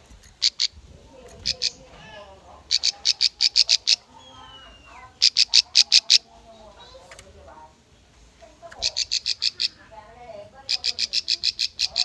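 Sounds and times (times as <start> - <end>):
soft low bird chattering: 0.0 - 12.0.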